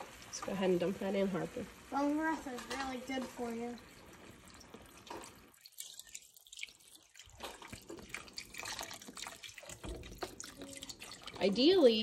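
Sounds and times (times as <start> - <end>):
broth splashing into a pot: 0.0 - 12.0.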